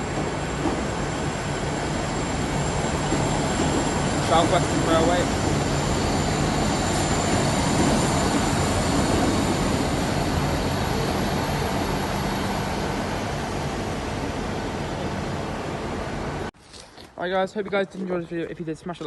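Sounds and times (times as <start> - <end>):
diesel train engine drone: 0.0 - 16.6.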